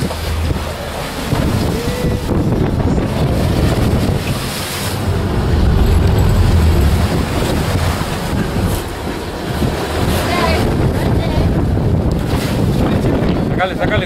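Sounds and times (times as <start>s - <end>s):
heavy low rumble: 0.0s - 12.4s
waves against boat hull: 0.0s - 14.0s
wind buffeting microphone: 0.0s - 14.0s.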